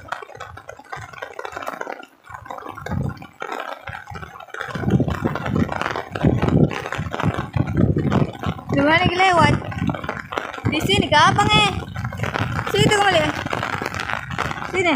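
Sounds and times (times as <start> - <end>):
heavy rain falling: 0.0 - 14.9
microphone rumbling: 0.0 - 14.9.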